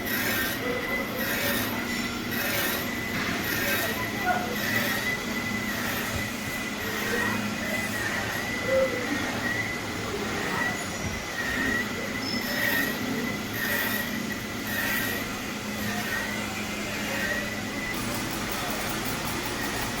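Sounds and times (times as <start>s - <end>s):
lathe cutting tool squeal: 0.0s - 18.2s
lathe motor hum: 0.0s - 20.0s.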